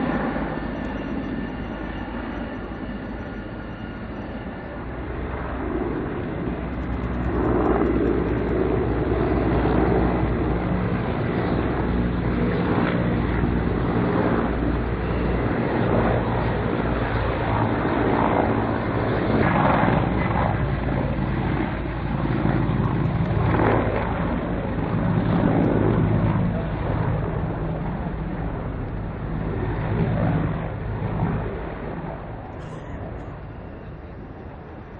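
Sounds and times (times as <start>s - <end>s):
helicopters flying low: 0.0s - 34.9s.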